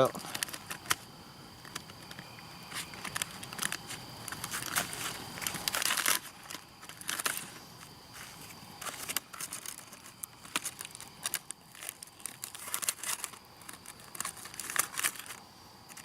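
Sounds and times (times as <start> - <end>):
foil pouch crinkling: 0.0 - 16.0.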